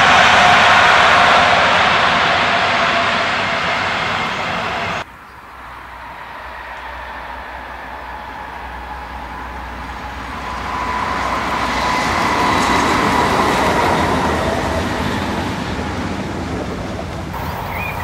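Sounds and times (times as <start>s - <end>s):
coaches rolling past: 0.0s - 18.0s
diesel locomotive passing with whine: 0.0s - 18.0s.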